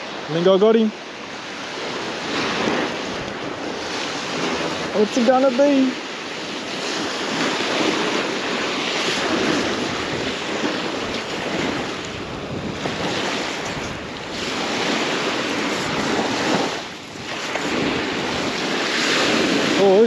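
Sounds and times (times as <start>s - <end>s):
surf washing onto beach: 0.0s - 20.0s
wind buffeting microphone: 0.0s - 20.0s.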